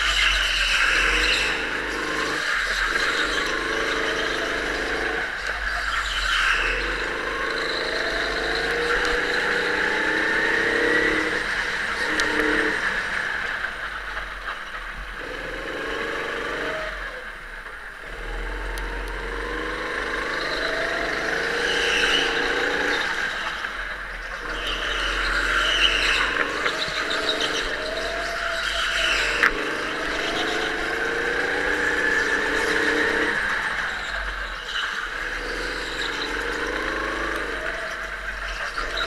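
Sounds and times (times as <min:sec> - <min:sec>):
go-kart engine revving: 0:00.0 - 0:39.0.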